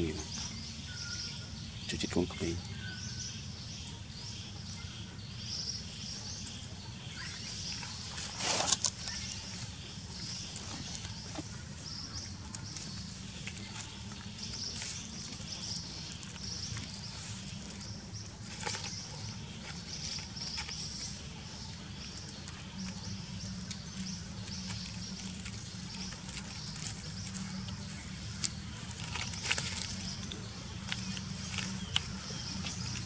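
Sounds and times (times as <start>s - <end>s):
low outdoor hum: 0.0s - 33.0s
dry leaves crackling and rustling: 6.4s - 33.0s.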